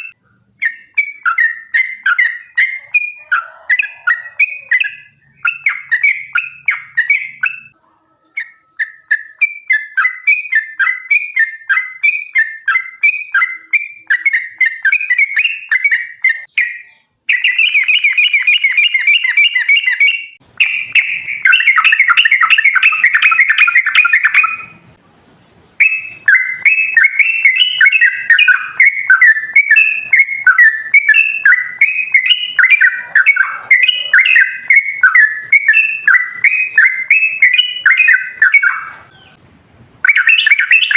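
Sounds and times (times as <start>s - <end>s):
bird bubbling song: 0.0s - 39.4s.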